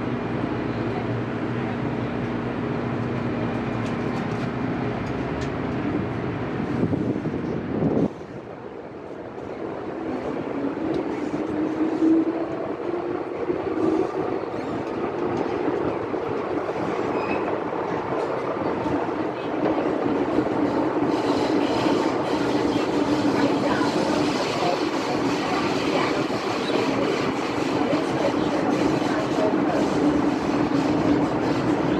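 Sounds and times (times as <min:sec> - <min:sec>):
train running noise: 0:00.0 - 0:31.9.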